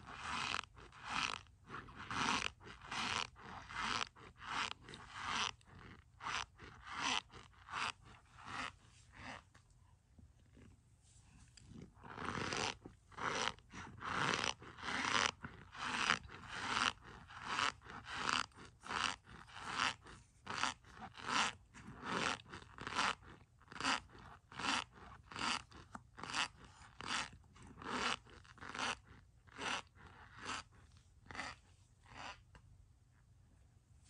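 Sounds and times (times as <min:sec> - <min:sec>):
spoon scraping crunchy starch: 0:00.0 - 0:09.6, 0:11.3 - 0:32.6.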